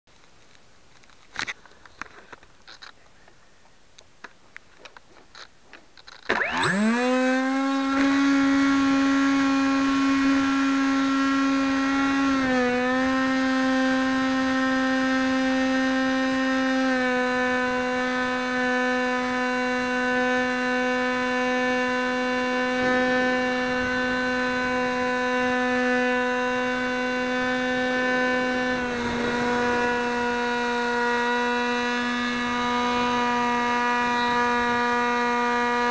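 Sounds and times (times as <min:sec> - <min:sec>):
drone propellers whining: 0:06.2 - 0:35.9.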